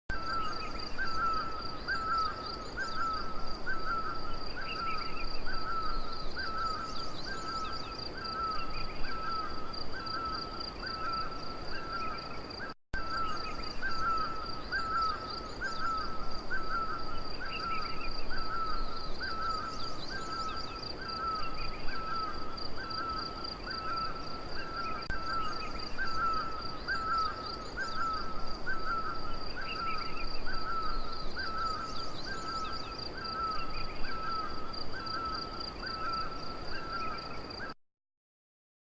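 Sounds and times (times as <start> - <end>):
bird calls: 0.1 - 37.8.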